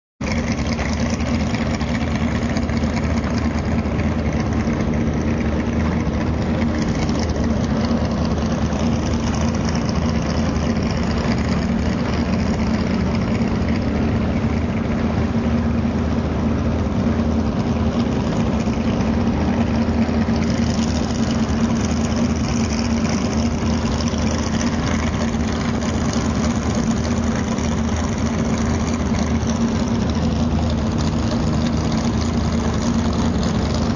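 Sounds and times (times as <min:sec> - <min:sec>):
boat engine running steadily: 0:00.2 - 0:33.9.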